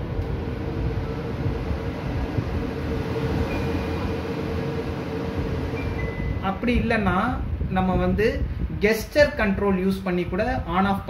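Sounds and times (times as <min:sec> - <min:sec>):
range hood blower running: 0:00.0 - 0:11.0.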